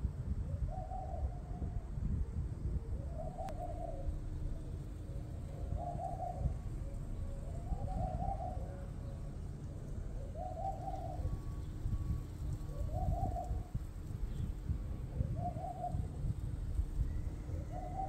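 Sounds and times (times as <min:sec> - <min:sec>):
steady low rumble: 0:00.0 - 0:18.0
dove cooing: 0:00.3 - 0:18.0.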